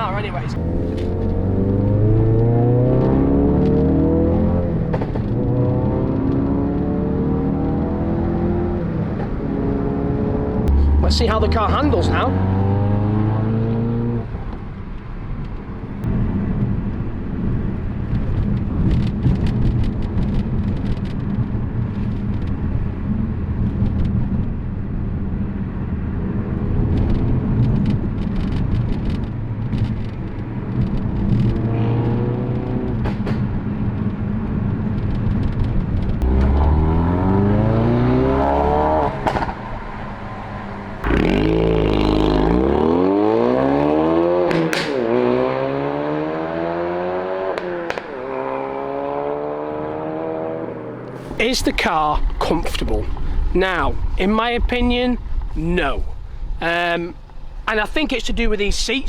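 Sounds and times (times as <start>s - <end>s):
exhaust cracks: 0.0s - 9.5s, 10.5s - 45.6s, 47.4s - 49.2s, 50.7s - 59.0s
car engine revving: 0.0s - 14.5s, 18.1s - 58.0s
road rumble: 0.0s - 59.0s.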